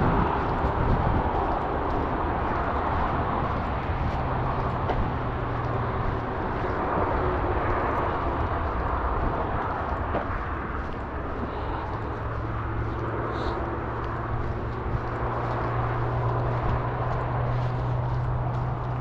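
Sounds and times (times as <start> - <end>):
low engine hum: 0.0 - 19.0
road traffic rumble: 0.0 - 19.0.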